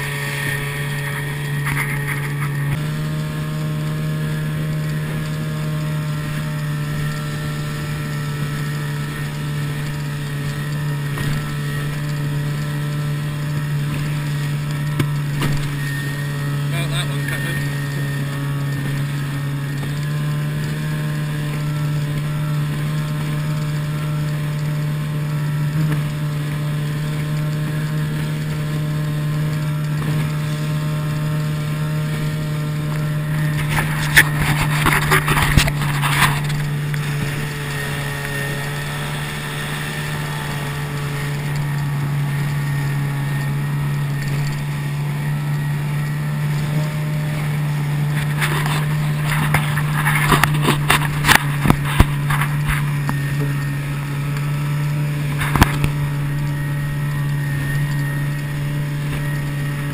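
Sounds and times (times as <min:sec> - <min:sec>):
hull slapping on water: 0:00.0 - 0:59.9
outboard motor droning: 0:00.0 - 0:59.9.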